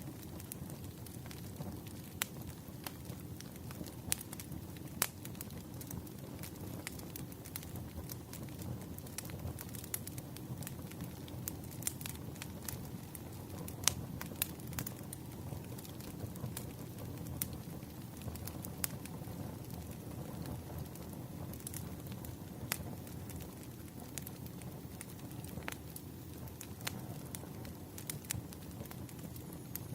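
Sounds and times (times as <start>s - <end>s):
firewood crackling: 0.0s - 29.9s.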